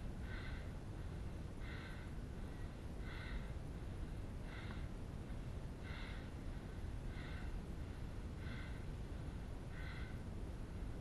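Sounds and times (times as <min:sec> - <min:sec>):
person breathing hard: 0:00.0 - 0:11.0.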